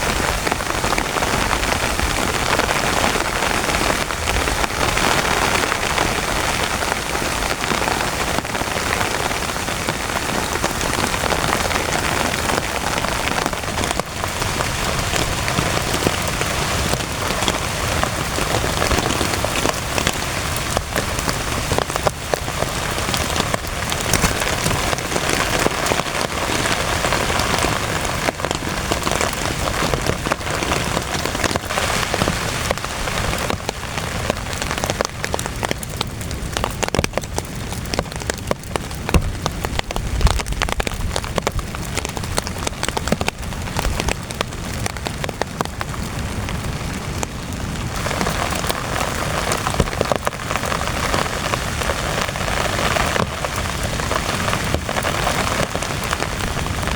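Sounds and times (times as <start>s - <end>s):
heavy rain on a tent: 0.0s - 56.9s.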